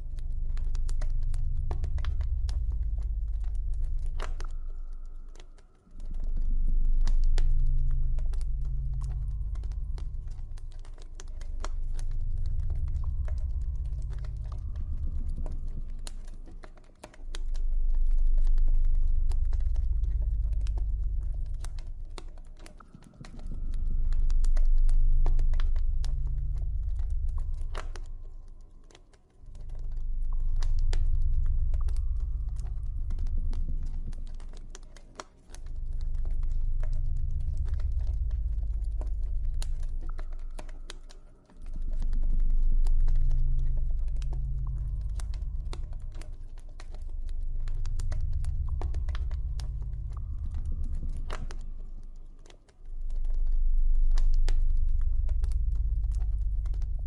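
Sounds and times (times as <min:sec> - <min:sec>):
deep ambient drone: 0:00.0 - 0:57.0.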